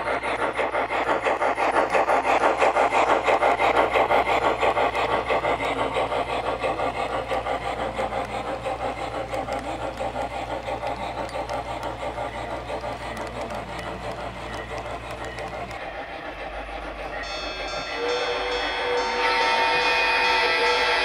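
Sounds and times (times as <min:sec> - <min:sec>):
model steam locomotive chuffing: 0:00.0 - 0:21.0.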